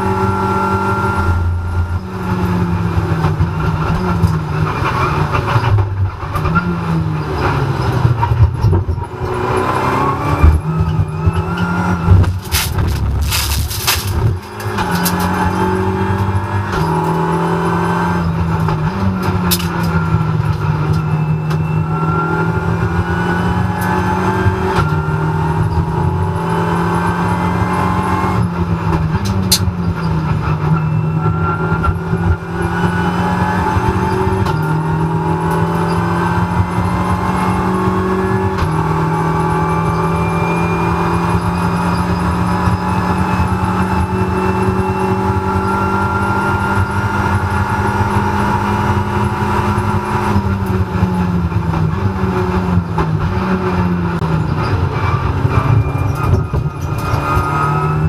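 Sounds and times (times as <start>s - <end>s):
race car engine whine: 0.0s - 58.0s.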